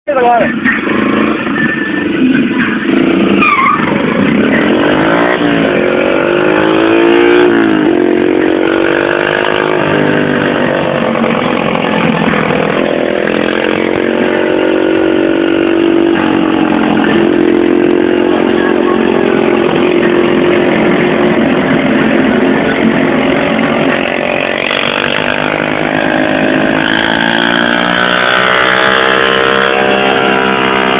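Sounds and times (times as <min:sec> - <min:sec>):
motorcycle engine echoing in tunnel: 0:00.5 - 0:30.9.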